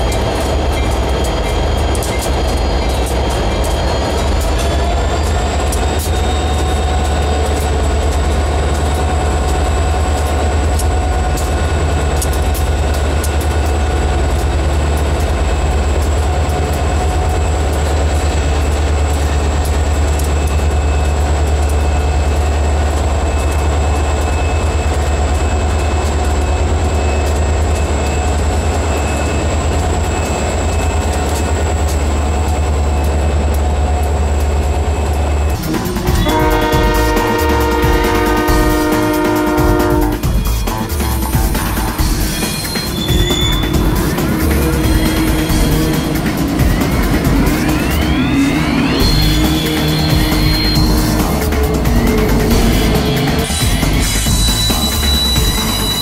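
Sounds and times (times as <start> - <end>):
diesel locomotives rumbling: 0.0 - 56.0
train wheels clicking over rails: 0.0 - 56.0.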